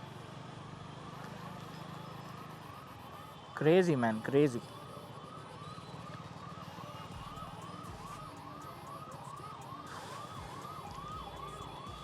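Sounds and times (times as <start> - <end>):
emergency siren yelping: 1.9 - 12.0.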